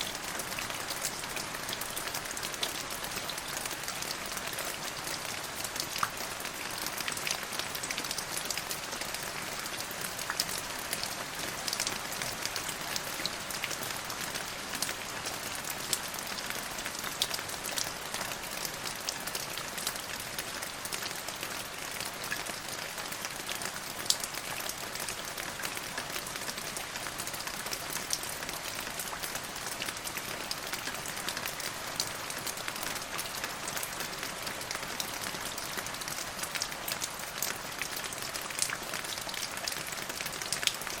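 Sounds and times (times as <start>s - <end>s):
rain pattering: 0.0s - 41.0s.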